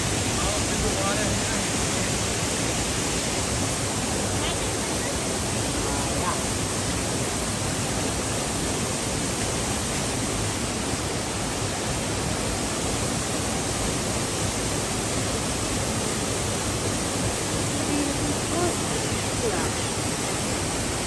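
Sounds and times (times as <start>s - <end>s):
stream water cascading over boulders: 0.0s - 21.0s.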